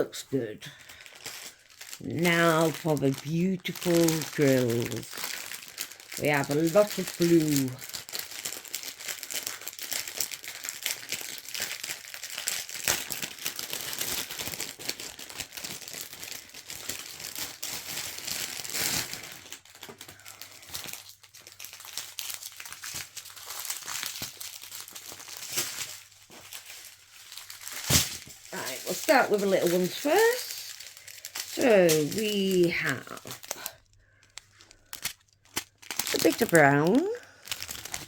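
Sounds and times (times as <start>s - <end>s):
plastic bags crinkling: 0.0s - 38.0s.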